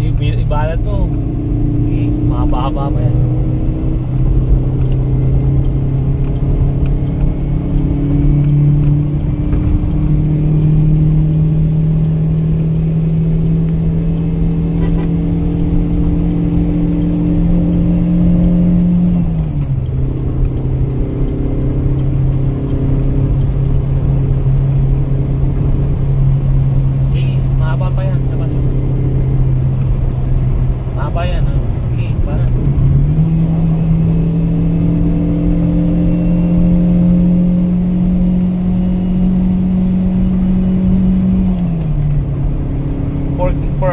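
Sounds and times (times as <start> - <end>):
car engine under load: 0.0 - 43.9.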